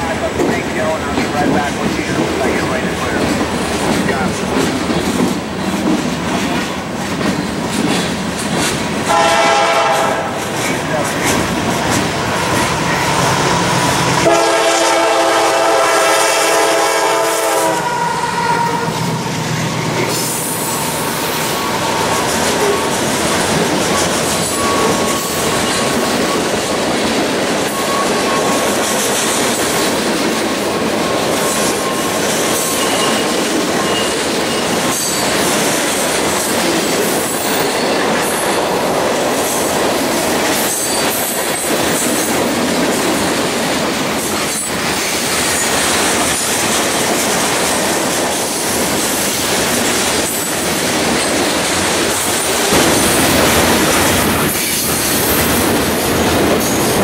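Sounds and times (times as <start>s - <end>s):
steel wheels rolling on rail: 0.0s - 57.0s.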